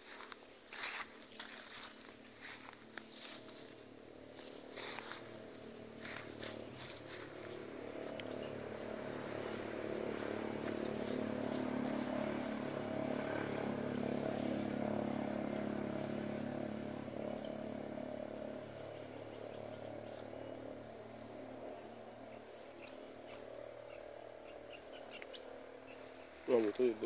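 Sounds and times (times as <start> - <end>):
low hum: 0.0 - 24.0
insects droning: 0.0 - 27.0.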